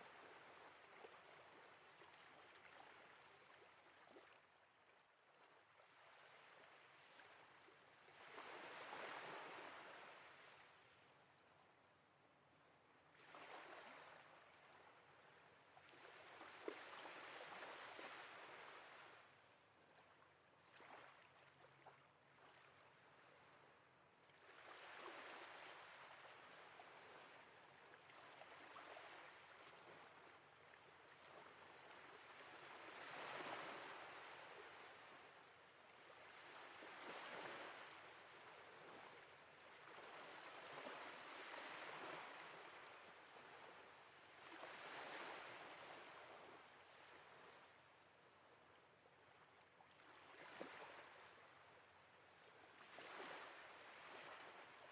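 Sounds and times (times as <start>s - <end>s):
faint sea waves: 0.0s - 54.9s.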